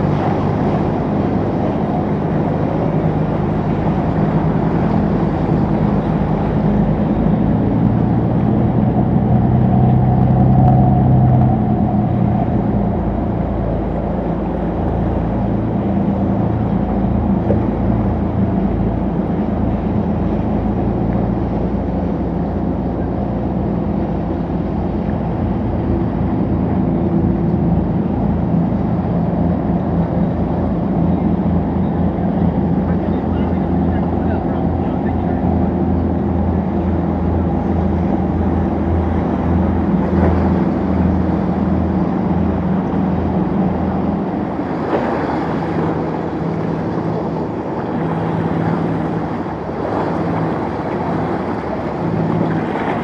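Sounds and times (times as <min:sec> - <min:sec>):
motorboat engines droning: 0:00.0 - 0:53.0
wind and water rumble: 0:00.0 - 0:53.0.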